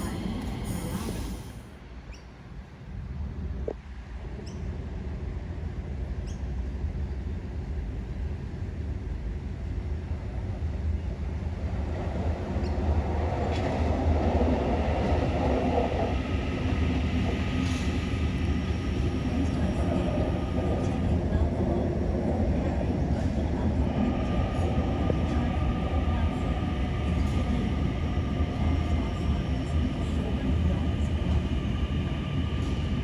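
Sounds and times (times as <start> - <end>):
train rumbling: 0.0 - 4.1, 4.9 - 33.0.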